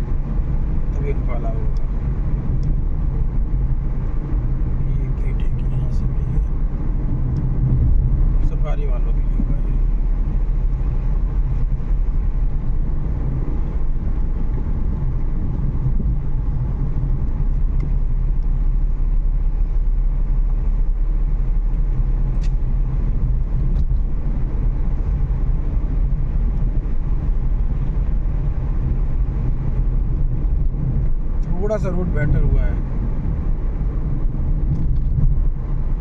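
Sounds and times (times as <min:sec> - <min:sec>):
road and engine rumble: 0:00.0 - 0:36.0.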